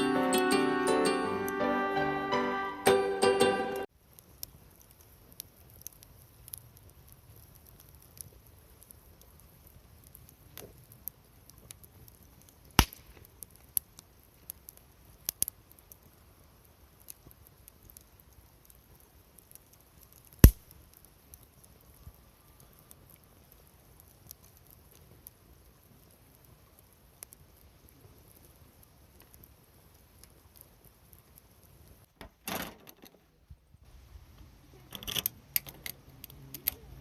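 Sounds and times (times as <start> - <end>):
wood fire crackling and popping: 3.8 - 33.9, 34.7 - 37.0.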